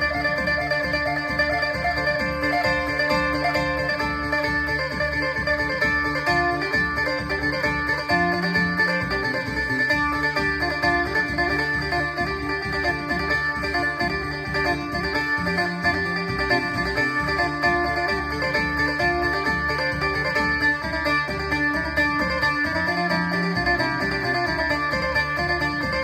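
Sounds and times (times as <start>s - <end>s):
electric lute plucked melody: 0.0s - 26.0s
steady low beat: 0.0s - 26.0s.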